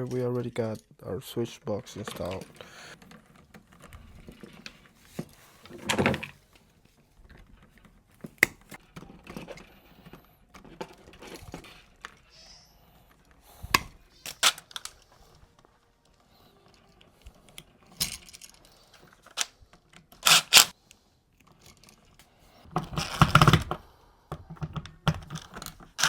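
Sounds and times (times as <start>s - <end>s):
objects being handled: 1.6s - 26.0s.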